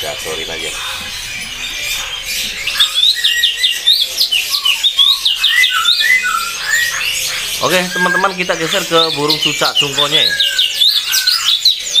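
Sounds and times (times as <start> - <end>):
canary chirping: 0.0 - 12.0
lower whistled bird notes: 0.0 - 12.0.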